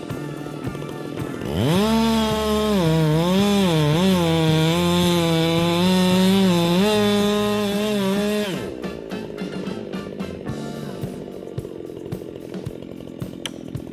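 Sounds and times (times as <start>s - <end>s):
chainsaw engine revving: 0.0s - 13.9s.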